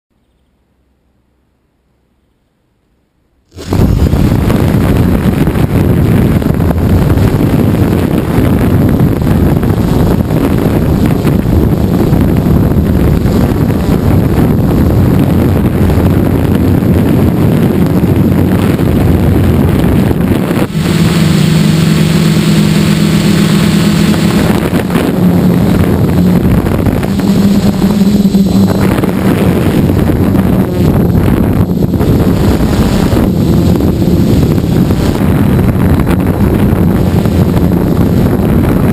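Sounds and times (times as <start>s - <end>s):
steady pitched hum: 0.1s - 38.9s
quadcopter motors and propellers: 3.5s - 38.9s
wind on microphone: 3.5s - 38.9s.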